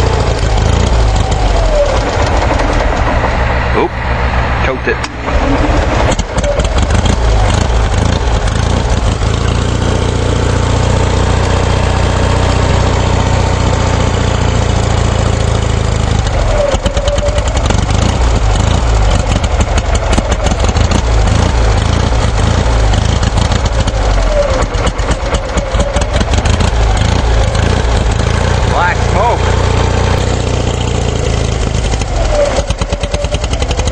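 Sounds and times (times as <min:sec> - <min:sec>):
engine rumbling: 0:00.0 - 0:33.9.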